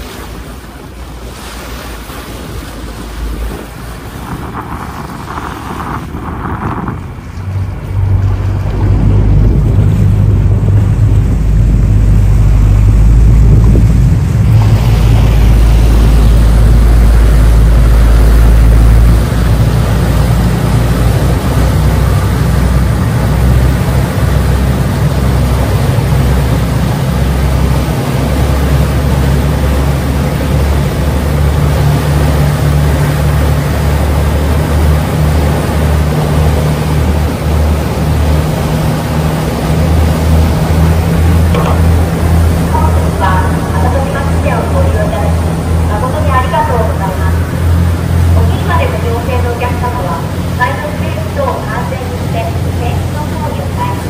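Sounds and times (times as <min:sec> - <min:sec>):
ship diesel engines droning: 0:00.0 - 0:54.0
water wash: 0:00.0 - 0:54.0
wind: 0:00.0 - 0:54.0.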